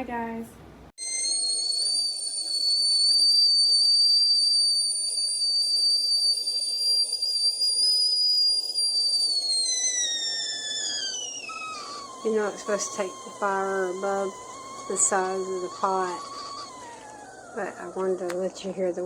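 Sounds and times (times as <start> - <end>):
kettle whistling: 1.0 - 19.0.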